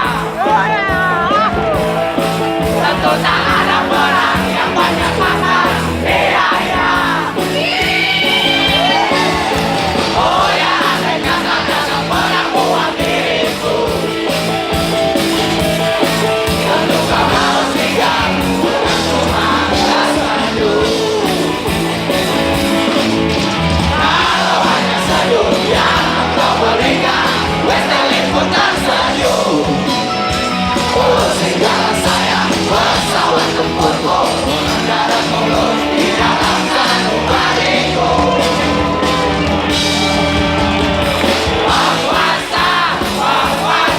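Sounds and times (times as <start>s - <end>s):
live pop rock band: 0.0s - 43.9s.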